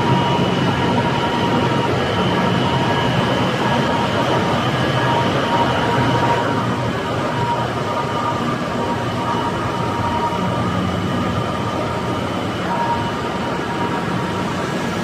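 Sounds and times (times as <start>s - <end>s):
faint machine whine: 0.0s - 15.0s.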